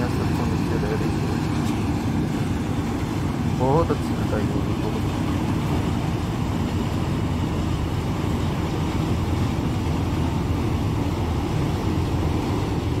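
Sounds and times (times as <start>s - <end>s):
combine harvester running: 0.0s - 13.0s.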